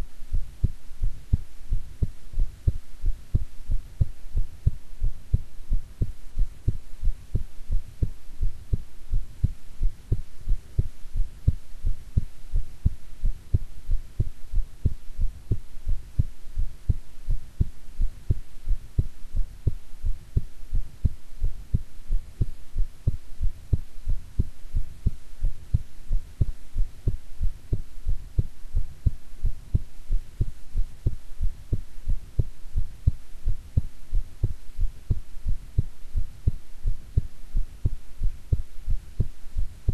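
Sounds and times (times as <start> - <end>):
heartbeat thumps: 0.0 - 39.9
steady low hum: 0.0 - 39.9.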